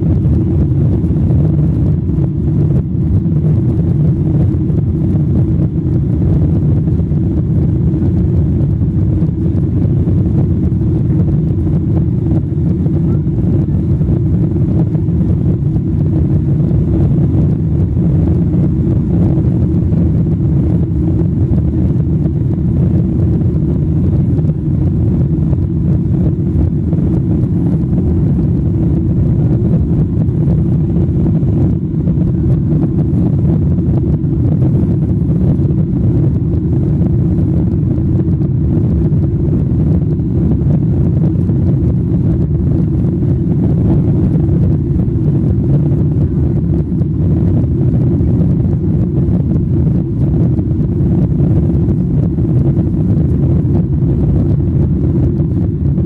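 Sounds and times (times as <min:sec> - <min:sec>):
airflow noise: 0:00.0 - 0:56.0
jet engines rumbling in cabin: 0:00.0 - 0:56.0.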